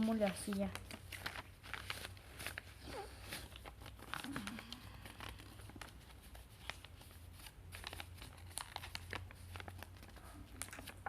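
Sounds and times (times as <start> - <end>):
paper crinkling and folding: 0.0 - 11.0.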